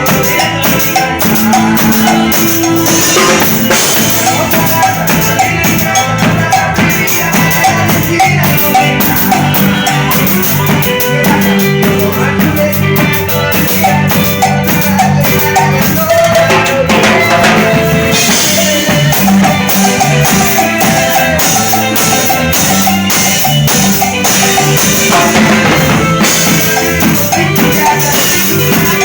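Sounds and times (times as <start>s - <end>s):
drums marking breaks: 0.0s - 29.0s
live cumbia band: 0.0s - 29.0s
repeating bass line: 0.0s - 29.0s.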